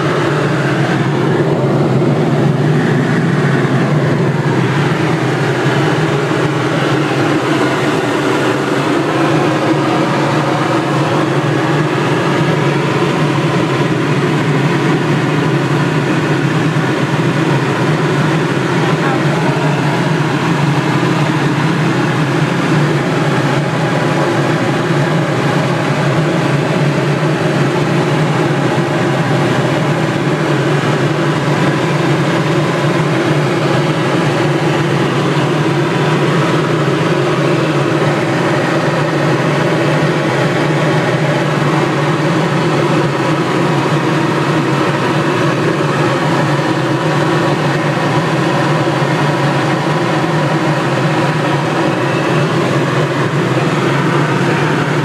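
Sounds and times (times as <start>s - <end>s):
helicopter engine and rotors droning: 0.0s - 55.0s.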